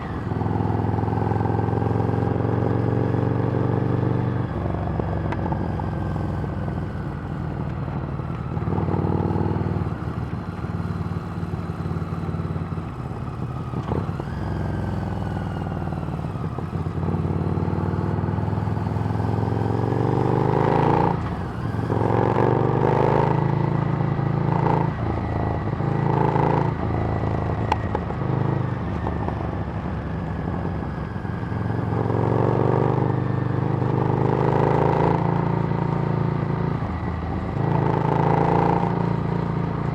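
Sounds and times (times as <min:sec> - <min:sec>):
motorcycle engine revving: 0:00.0 - 0:29.4, 0:30.2 - 0:39.9.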